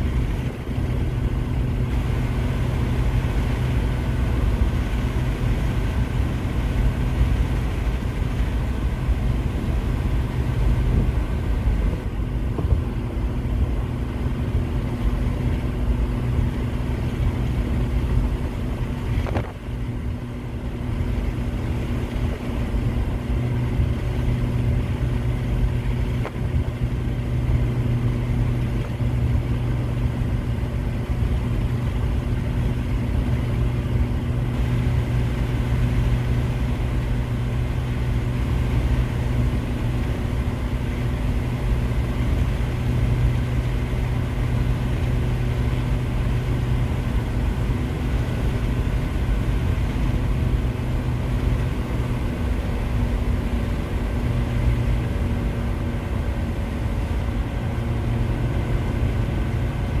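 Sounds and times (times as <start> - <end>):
engine drone inside vehicle: 0.0 - 60.0
tyre and road rumble: 0.0 - 60.0.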